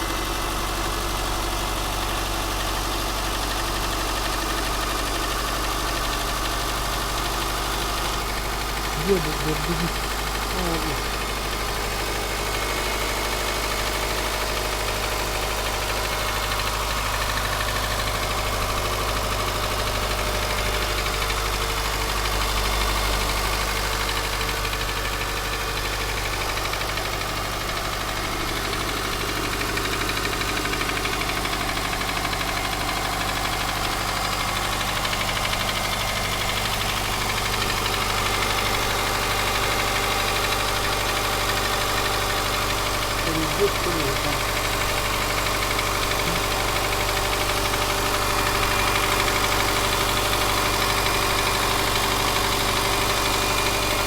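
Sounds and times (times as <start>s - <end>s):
car engine idling: 0.0s - 54.0s
engine knocking: 0.0s - 54.0s.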